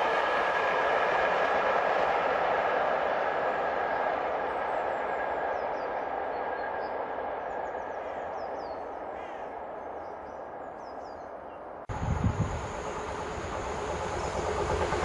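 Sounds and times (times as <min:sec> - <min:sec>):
diesel train low rumble: 0:00.0 - 0:15.0
train running on rails: 0:00.0 - 0:15.0.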